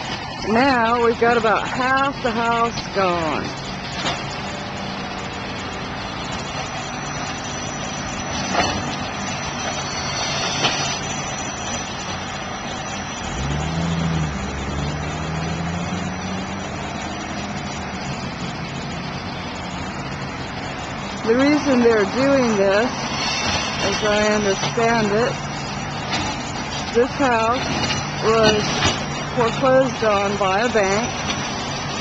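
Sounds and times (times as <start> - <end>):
heavy engine running: 0.0 - 32.0.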